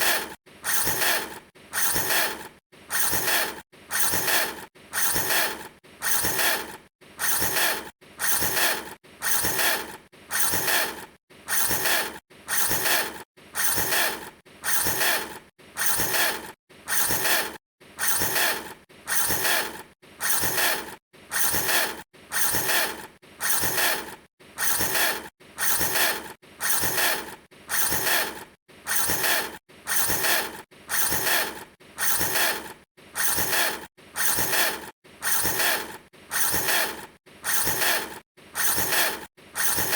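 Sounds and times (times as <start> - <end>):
harsh mechanical rasp: 0.0 - 39.9.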